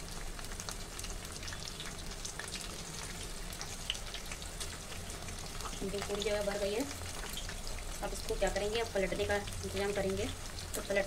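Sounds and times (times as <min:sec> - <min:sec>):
food deep-frying in hot oil: 0:00.0 - 0:11.0
oil crackling and popping: 0:00.0 - 0:11.0.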